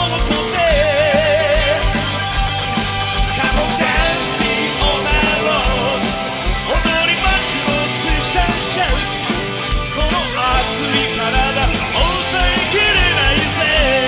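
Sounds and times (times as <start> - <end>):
bass: 0.0 - 14.0
drum kit beat: 0.0 - 14.0
electric guitars: 0.0 - 14.0
keyboards: 0.0 - 14.0.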